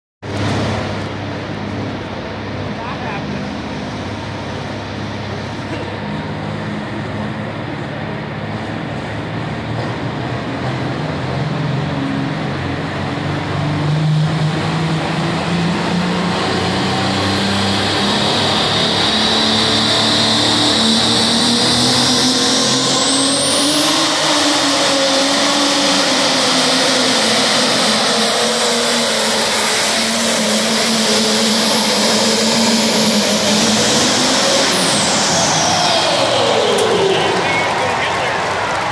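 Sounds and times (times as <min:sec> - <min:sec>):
tractor diesel engine running hard: 0:00.2 - 0:38.9.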